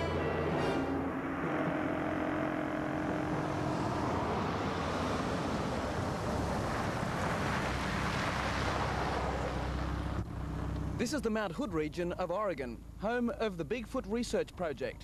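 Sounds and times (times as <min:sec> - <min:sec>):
car engine approaching: 0:00.0 - 0:14.4.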